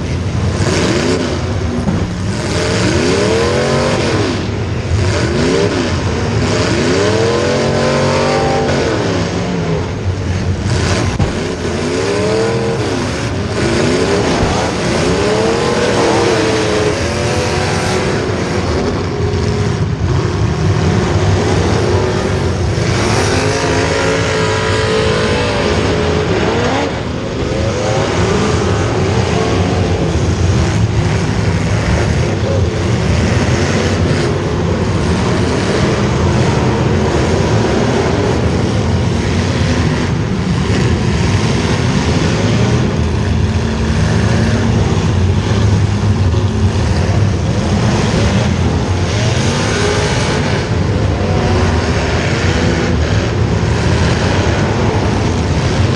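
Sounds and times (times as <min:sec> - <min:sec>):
racing engines revving: 0:00.0 - 0:55.9.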